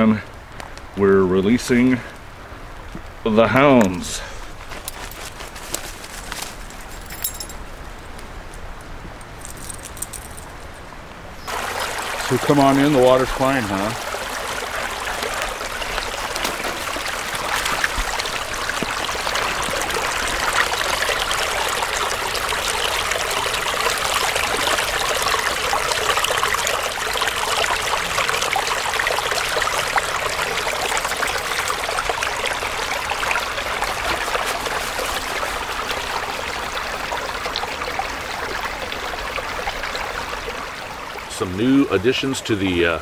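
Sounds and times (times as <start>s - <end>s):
creek water flowing over stones: 0.0s - 10.8s, 11.4s - 43.0s.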